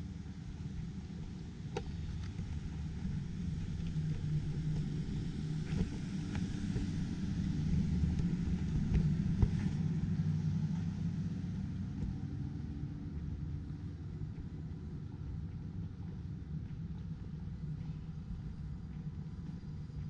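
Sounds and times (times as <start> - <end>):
vehicle passing rumble: 0.0 - 20.0.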